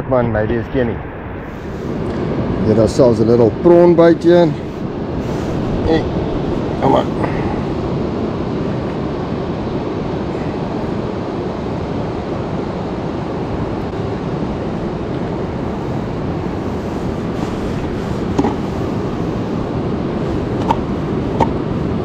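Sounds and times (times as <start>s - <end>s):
surf breaking on beach: 0.8s - 22.0s.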